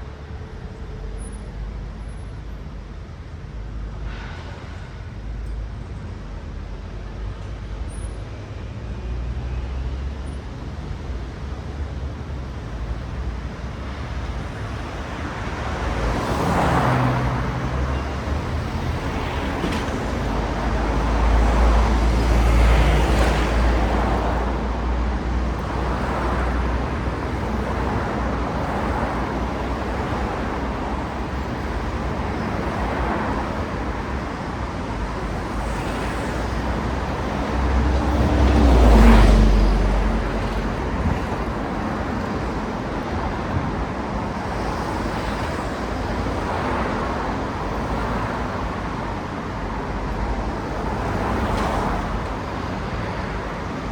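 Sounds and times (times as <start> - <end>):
cars passing with tyre hiss: 0.0 - 53.9.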